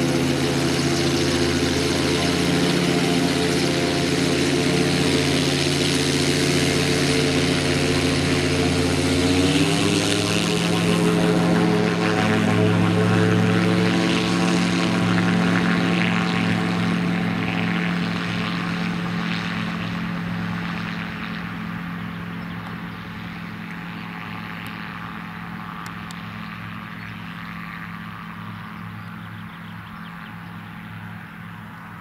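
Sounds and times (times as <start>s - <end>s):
gyroplane engine and propeller drone: 0.0s - 32.0s.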